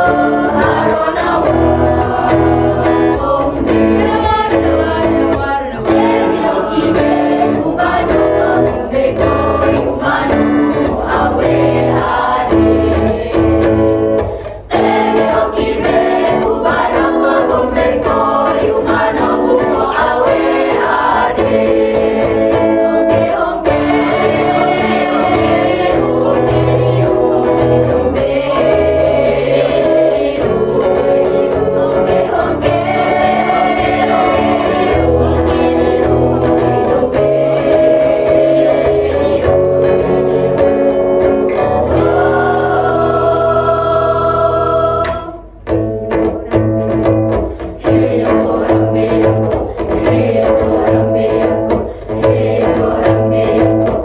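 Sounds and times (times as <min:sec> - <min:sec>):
choir singing: 0:00.0 - 0:45.6, 0:47.8 - 0:54.0
instrumental accompaniment: 0:00.0 - 0:54.0.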